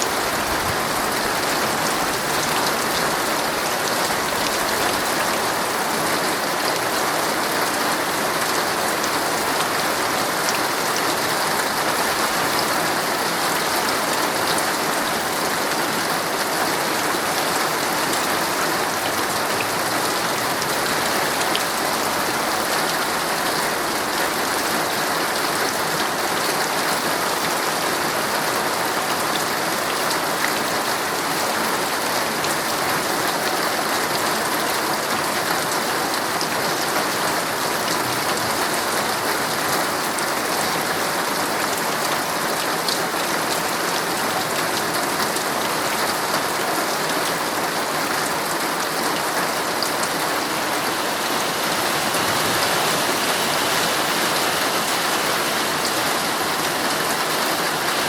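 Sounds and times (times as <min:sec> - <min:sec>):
heavy rain on tent fabric: 0:00.0 - 0:58.0.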